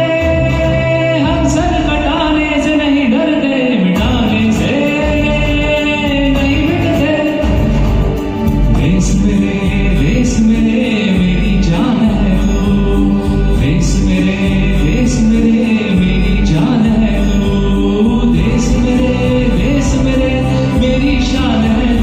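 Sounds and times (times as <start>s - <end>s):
backing music track: 0.0s - 22.0s
person singing: 0.0s - 22.0s.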